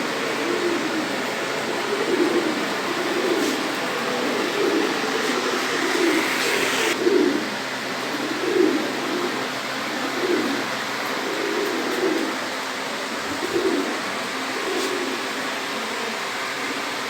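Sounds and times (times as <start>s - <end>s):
pigeons cooing: 0.0s - 17.0s
steady background hiss: 0.0s - 17.0s.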